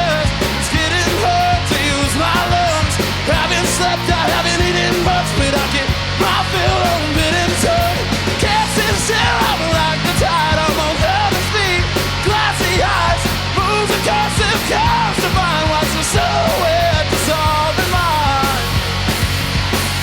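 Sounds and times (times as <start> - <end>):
drum hits: 0.0 - 20.0
punk rock band playing: 0.0 - 20.0.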